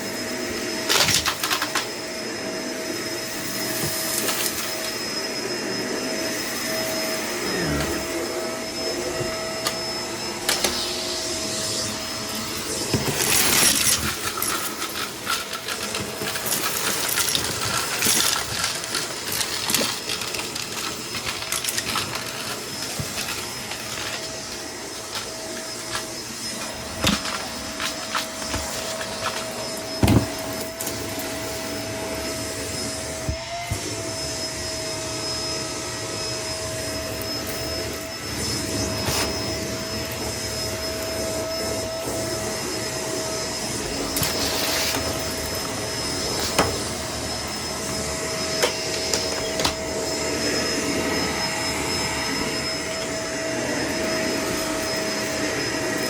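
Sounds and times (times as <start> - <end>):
vacuum cleaner whining: 0.0 - 56.0.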